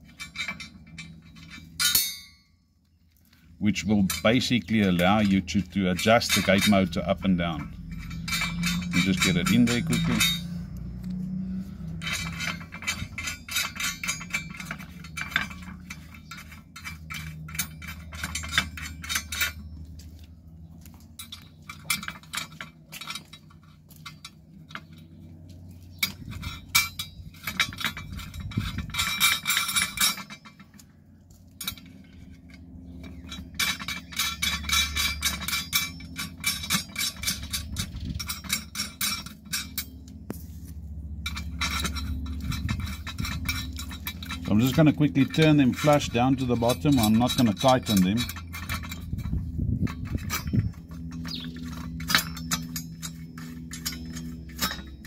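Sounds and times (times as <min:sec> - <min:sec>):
metal nuts clicking and clinking: 0:00.0 - 0:02.5, 0:03.3 - 0:55.0.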